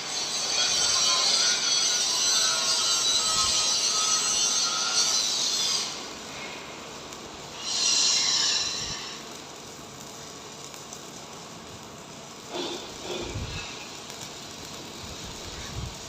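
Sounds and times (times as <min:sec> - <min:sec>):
welding arc crackling hiss: 0:00.0 - 0:16.0.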